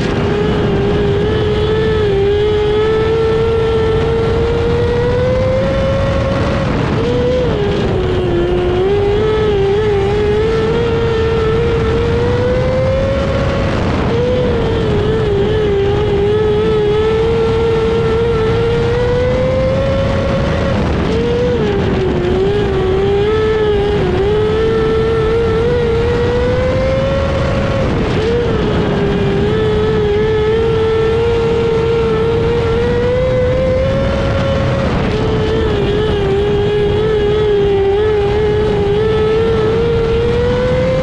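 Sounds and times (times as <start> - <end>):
motorcycle engine running hard: 0.0 - 41.0
wind and tyre noise: 0.0 - 41.0.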